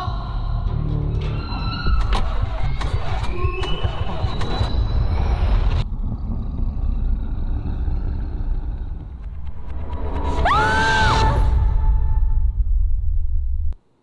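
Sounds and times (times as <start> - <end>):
deep low rumble: 0.5 - 13.8.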